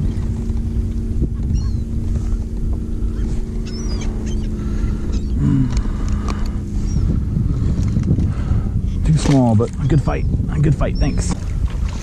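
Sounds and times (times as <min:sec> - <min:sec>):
birds calling: 0:00.0 - 0:12.0
low steady hum: 0:00.0 - 0:12.0
wind and water rumble: 0:00.0 - 0:12.0.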